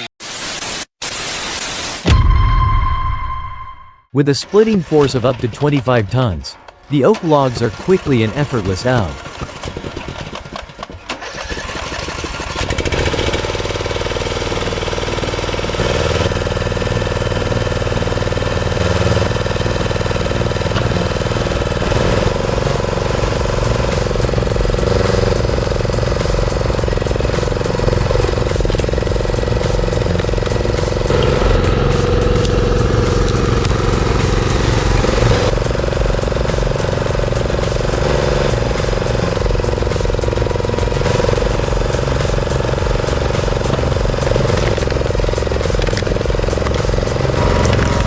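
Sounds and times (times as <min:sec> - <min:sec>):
machine engine running: 0:07.7 - 0:48.0.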